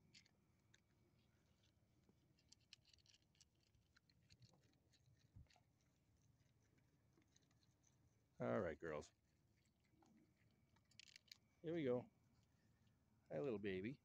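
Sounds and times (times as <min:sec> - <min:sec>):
faint ticks and clicks: 0:00.0 - 0:11.7.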